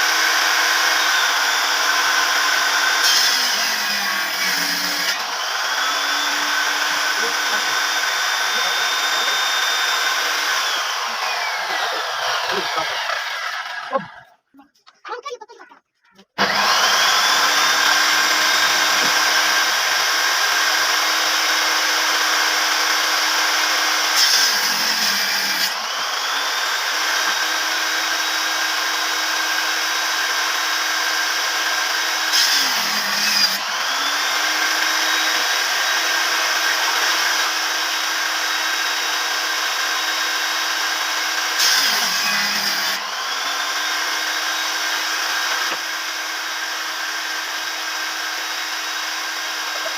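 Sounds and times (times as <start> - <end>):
power tool cutting wood: 0.0 - 14.4, 16.3 - 49.9.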